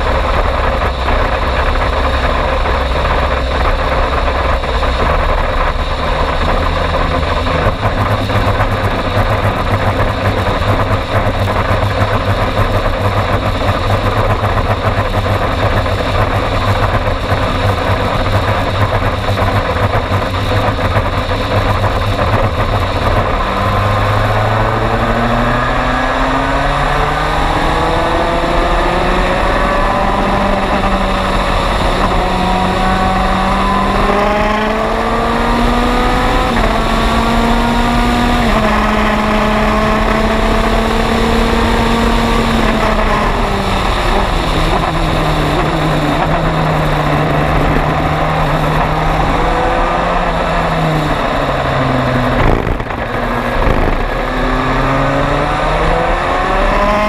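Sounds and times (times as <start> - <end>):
race car engine: 0.0 - 57.0
wind rush: 0.0 - 57.0.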